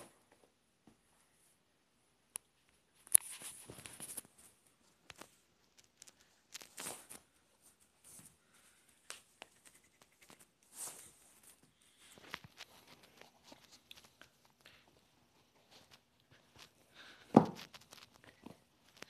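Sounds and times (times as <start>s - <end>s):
rustling: 2.6s - 19.0s.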